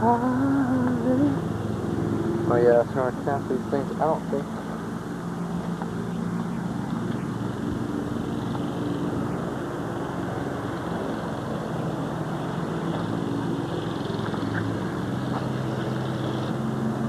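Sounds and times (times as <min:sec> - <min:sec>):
motor droning: 0:00.0 - 0:17.0.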